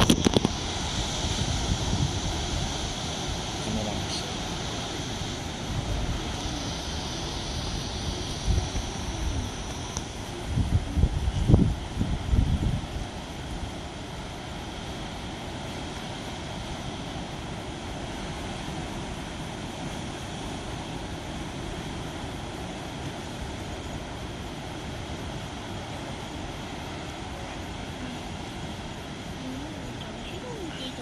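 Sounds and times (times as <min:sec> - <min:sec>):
heavy surf on rocky shore: 0:00.0 - 0:31.0.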